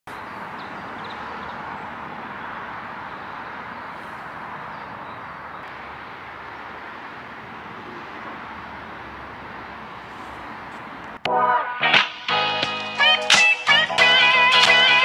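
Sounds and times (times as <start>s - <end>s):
outdoor background rush: 0.1s - 15.0s.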